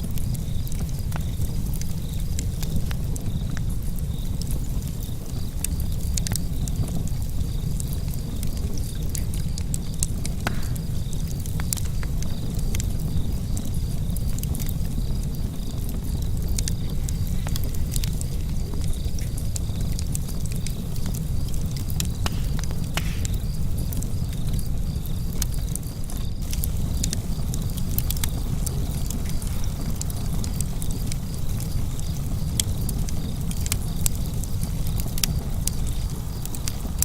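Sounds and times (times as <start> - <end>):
low rumble of flames: 0.0 - 37.0
wood fire crackling and popping: 0.0 - 37.0.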